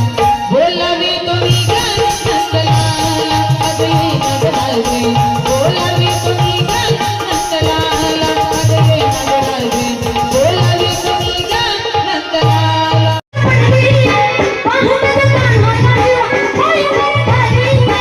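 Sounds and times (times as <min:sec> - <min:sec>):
tabla drum strokes: 0:00.0 - 0:18.0.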